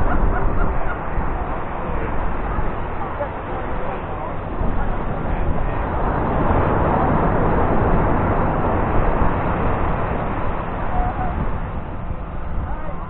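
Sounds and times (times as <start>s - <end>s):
waves breaking on beach: 0.0s - 13.0s
wind on microphone: 0.0s - 13.0s.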